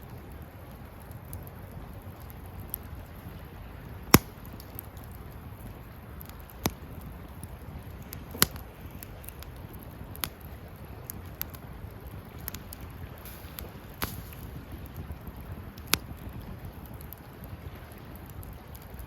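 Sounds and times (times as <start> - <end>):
campfire burning: 0.0 - 19.0
wood popping and crackling: 0.0 - 19.0.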